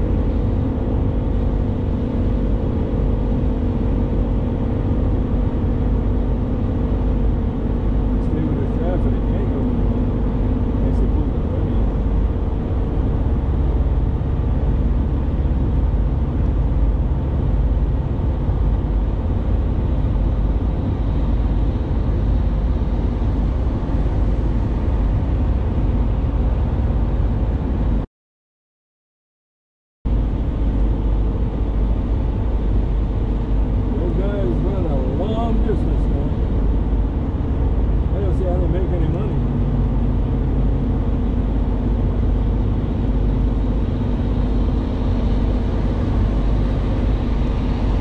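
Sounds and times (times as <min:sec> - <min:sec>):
vehicle road and engine noise: 0:00.0 - 0:28.1, 0:30.1 - 0:48.0.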